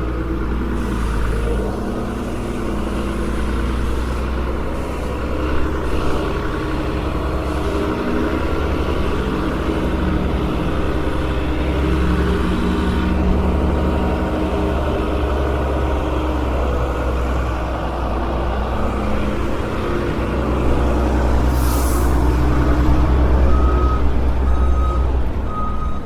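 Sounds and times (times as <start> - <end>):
heavy truck engine rumbling: 0.0 - 26.0.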